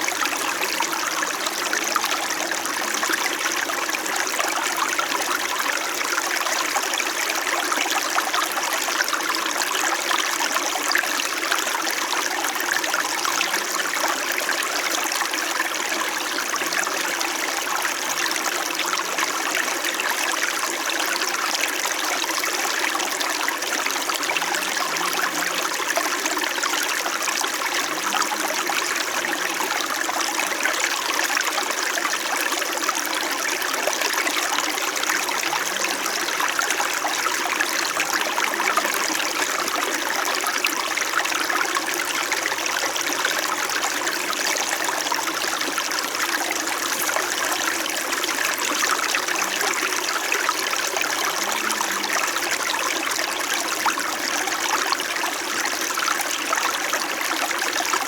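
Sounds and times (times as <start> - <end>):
small stream flowing: 0.0 - 58.0.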